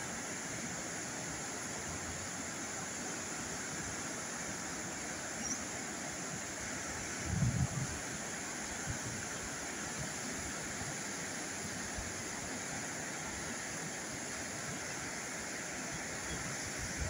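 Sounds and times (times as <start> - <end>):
river rushing through rapids: 0.0 - 17.0.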